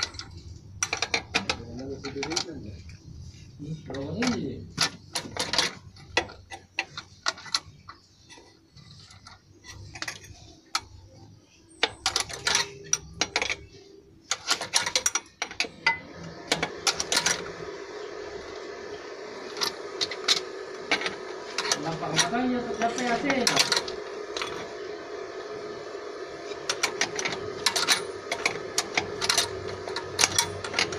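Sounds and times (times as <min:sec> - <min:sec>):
steady machine hum: 0:00.0 - 0:30.9.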